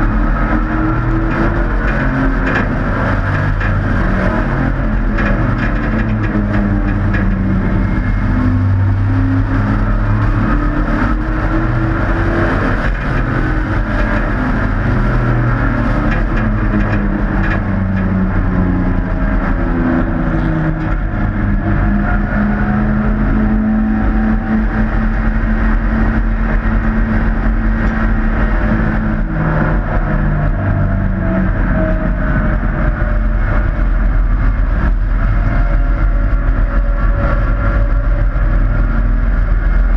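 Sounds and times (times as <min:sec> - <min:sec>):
race truck engines: 0:00.0 - 0:39.9.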